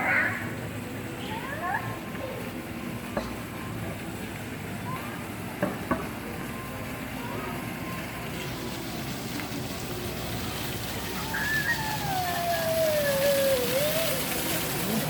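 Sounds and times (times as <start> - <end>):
water fountain splashing: 0.0 - 15.0.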